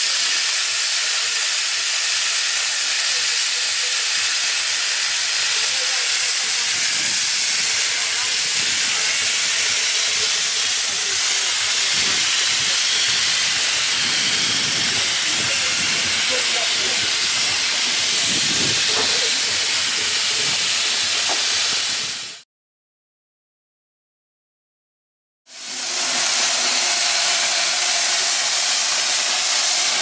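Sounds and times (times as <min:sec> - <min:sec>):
steam hissing: 0:00.0 - 0:22.4, 0:25.5 - 0:30.0.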